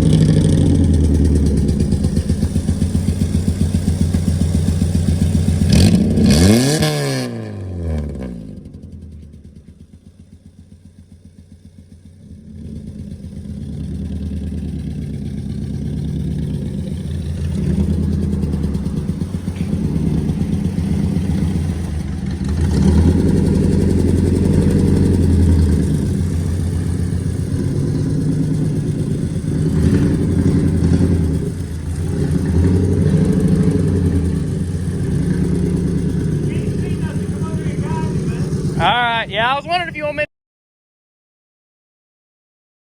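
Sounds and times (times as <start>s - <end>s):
car engine revving: 0.0s - 10.0s, 10.7s - 40.3s.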